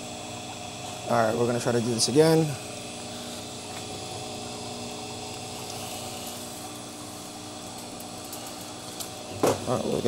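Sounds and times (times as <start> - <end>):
machinery humming with steady tones: 0.0 - 10.0
machine hiss: 1.1 - 10.0.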